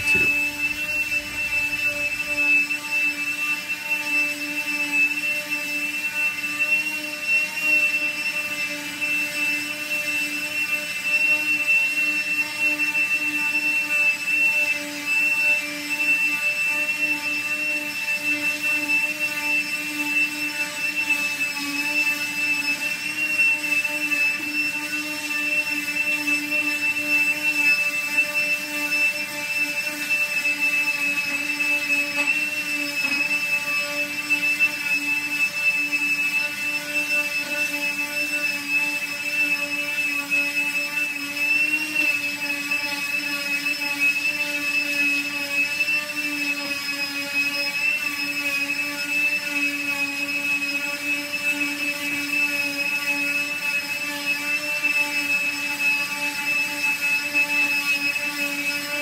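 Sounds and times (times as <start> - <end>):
orbital sander on wood: 0.0 - 59.0.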